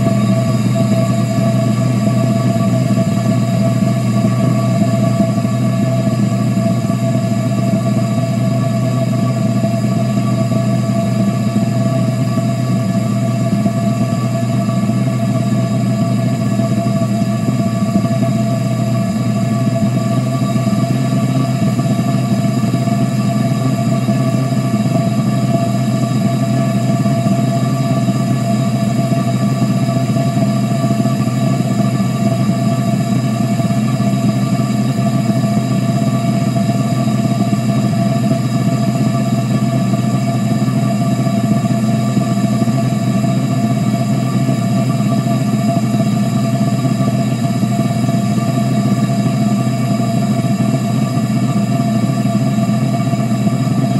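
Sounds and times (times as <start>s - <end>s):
steady hum tones: 0.0s - 53.9s.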